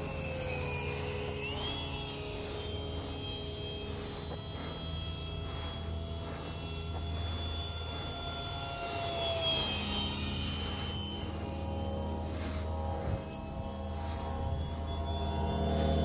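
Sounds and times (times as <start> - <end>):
model jet fan whine: 0.0 - 16.0.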